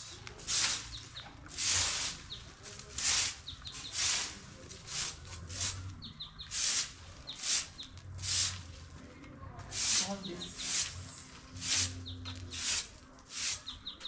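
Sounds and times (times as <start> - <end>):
broom sweeping leaves on bricks: 0.0 - 8.9, 9.6 - 14.0
small birds chirping: 0.0 - 14.0.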